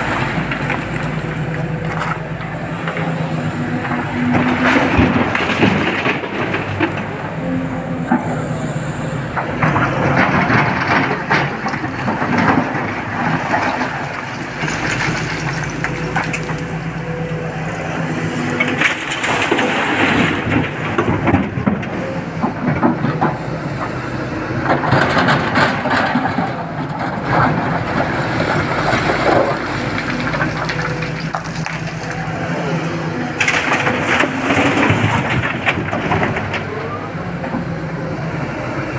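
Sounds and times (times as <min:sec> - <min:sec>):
diesel engine humming: 0:00.0 - 0:38.9
rock and earth scraping: 0:00.0 - 0:38.9.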